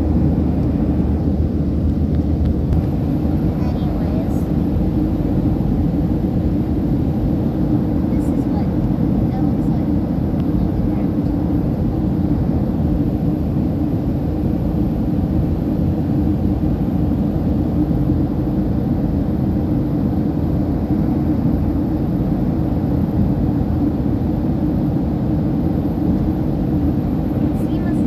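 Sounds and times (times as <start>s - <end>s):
jet engine and airflow rush: 0.0s - 28.0s
low hum: 0.0s - 28.0s.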